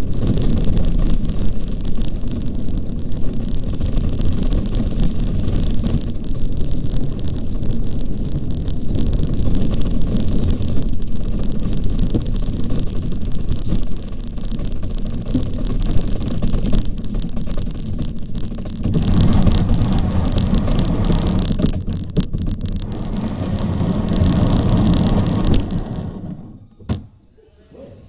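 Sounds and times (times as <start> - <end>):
bobsleigh runners rumbling on ice: 0.0 - 26.7.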